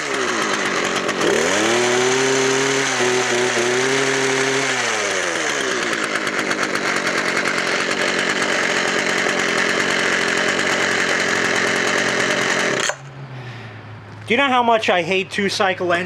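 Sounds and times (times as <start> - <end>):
hedge trimmer engine: 0.0 - 13.6.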